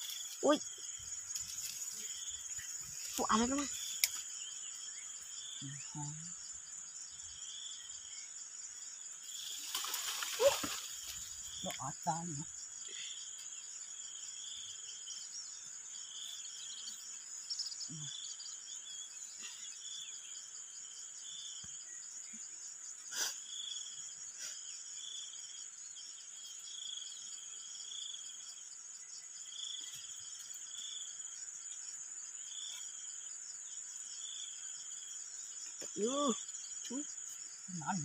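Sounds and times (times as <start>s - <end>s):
insect chirp: 0.0s - 38.0s
insect high-pitched drone: 0.0s - 38.0s.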